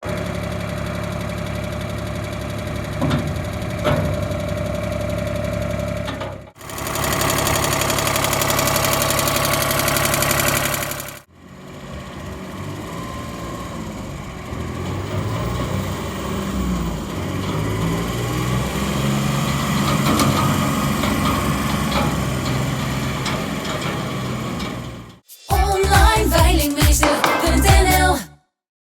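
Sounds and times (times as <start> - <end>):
small diesel tractor engine running: 0.0 - 26.4.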